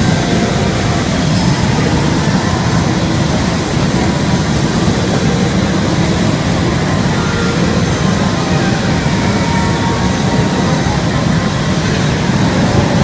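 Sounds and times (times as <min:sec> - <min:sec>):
electric air blower roaring: 0:00.0 - 0:13.0.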